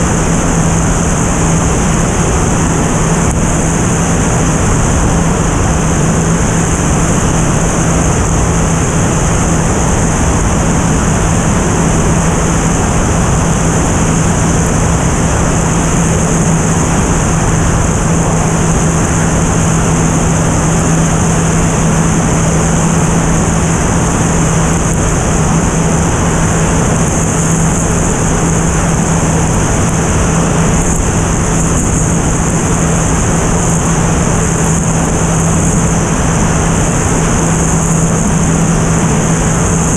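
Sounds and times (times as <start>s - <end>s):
propeller airplane engine drone: 0.0s - 39.9s
wind rush on microphone: 0.0s - 39.9s.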